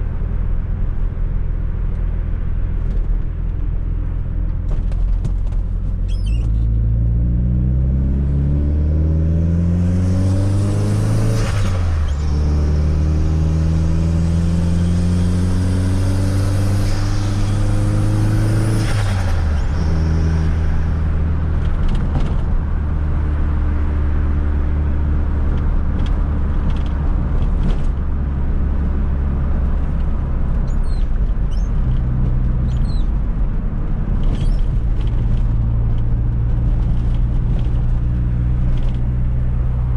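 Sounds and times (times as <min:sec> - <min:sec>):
car engine accelerating: 0:03.8 - 0:39.9.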